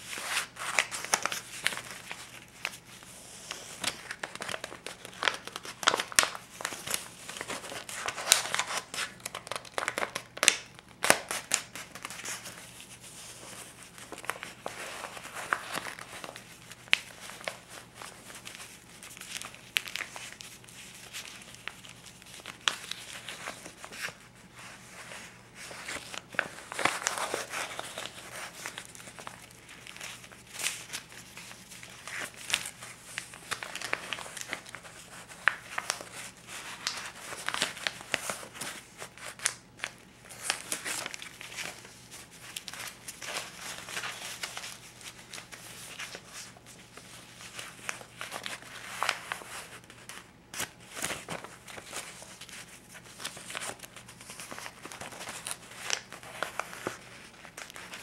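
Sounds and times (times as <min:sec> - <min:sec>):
paper bills rustling: 0:00.0 - 0:58.0.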